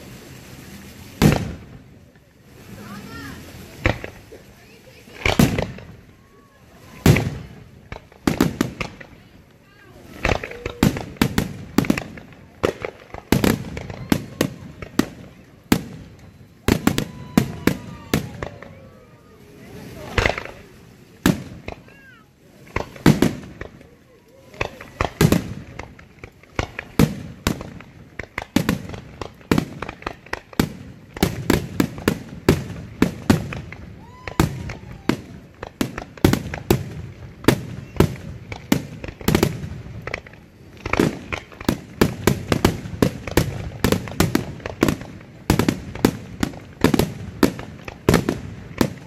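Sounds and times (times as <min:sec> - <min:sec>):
fireworks bursting in sharp bangs: 0:00.0 - 0:49.0.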